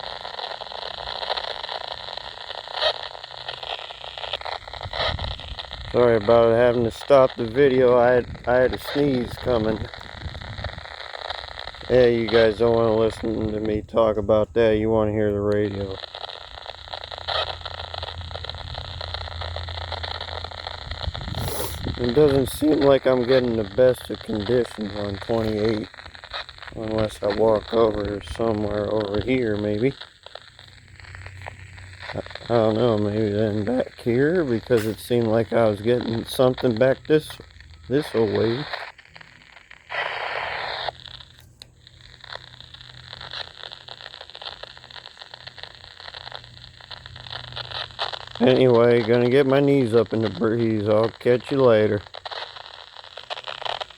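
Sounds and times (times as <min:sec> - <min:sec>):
radio static hiss: 0:00.0 - 0:53.9
steady low hum: 0:00.0 - 0:53.9.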